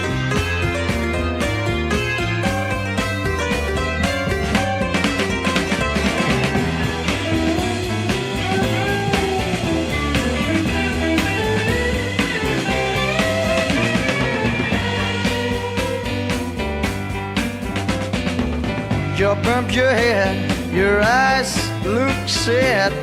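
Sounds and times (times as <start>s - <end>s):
bass and drums: 0.0s - 23.0s
lead electric guitar bending notes: 0.0s - 23.0s.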